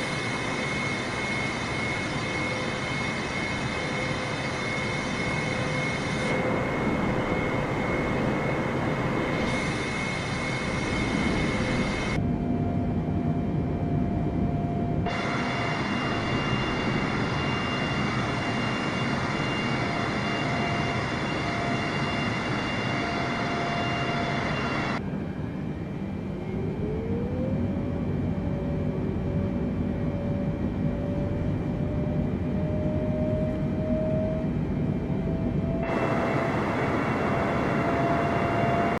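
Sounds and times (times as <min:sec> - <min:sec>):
jet engine whine: 0:00.0 - 0:39.0.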